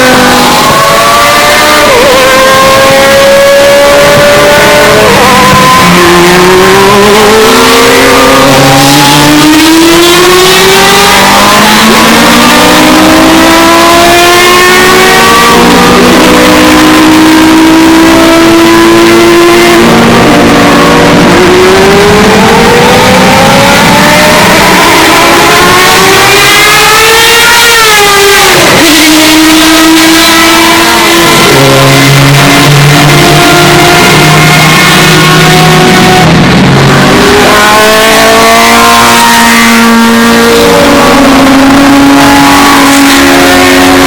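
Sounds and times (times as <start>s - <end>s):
race cars accelerating past: 0.0s - 44.0s.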